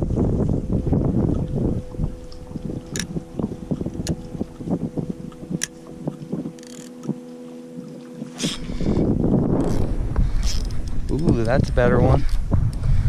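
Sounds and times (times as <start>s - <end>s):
motor humming: 0.7s - 13.0s.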